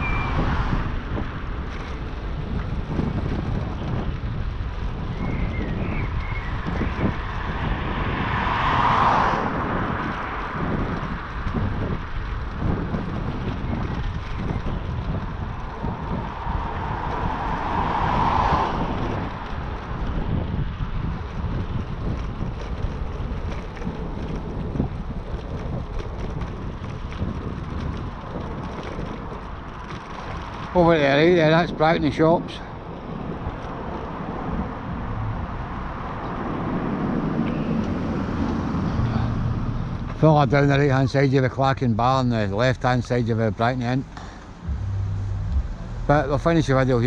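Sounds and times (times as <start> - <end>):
vehicle passing: 0.0 - 5.0, 6.1 - 41.2, 43.9 - 47.0
bicycle road noise: 0.0 - 47.0
wind buffeting microphone: 0.0 - 47.0.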